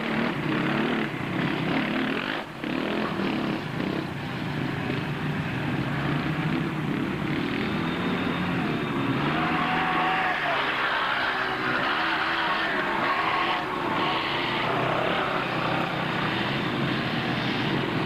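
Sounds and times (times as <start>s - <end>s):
quad engines revving: 0.0s - 18.0s.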